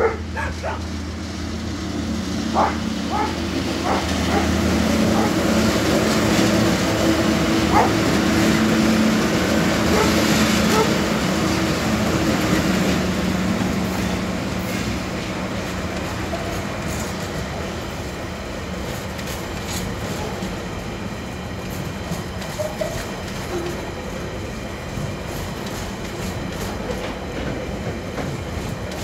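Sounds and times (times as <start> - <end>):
diesel locomotive engines droning: 0.0 - 29.0
wagons rumbling with clicking wheels: 2.4 - 18.2, 21.5 - 29.0.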